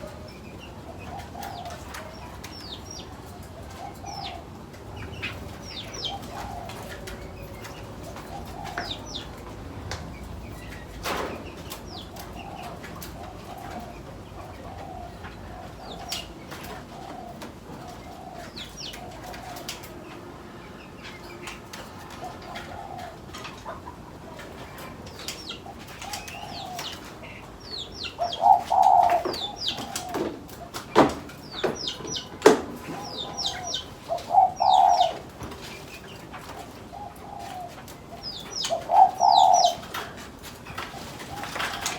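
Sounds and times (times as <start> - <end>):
small birds chirping: 0.0 - 19.9, 20.7 - 41.9
doves cooing: 0.0 - 41.9.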